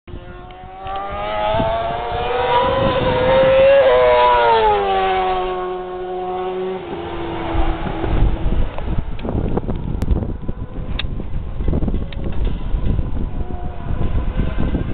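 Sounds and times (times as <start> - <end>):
lower engine note: 0.1 - 14.9
superbike passing at full throttle: 0.1 - 14.9.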